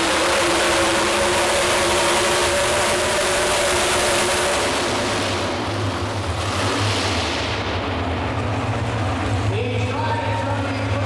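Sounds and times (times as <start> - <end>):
truck engine at full throttle: 0.0 - 11.0.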